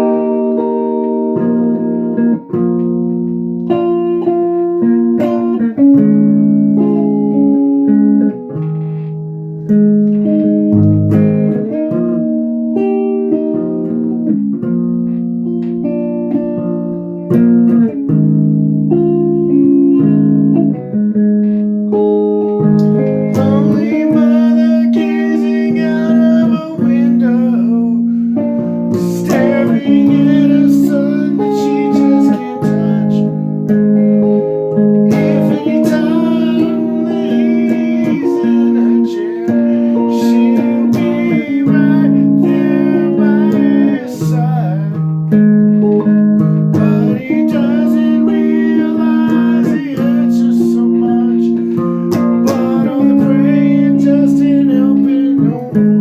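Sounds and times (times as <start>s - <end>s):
guitar playing: 0.0s - 56.0s.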